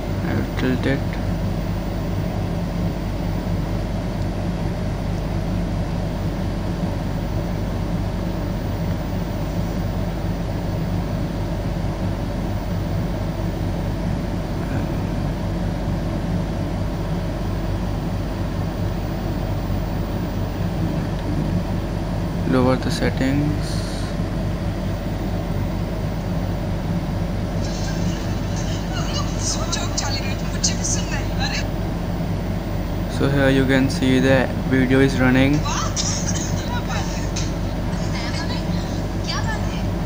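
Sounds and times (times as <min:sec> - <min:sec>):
machine hum: 0:00.0 - 0:40.0.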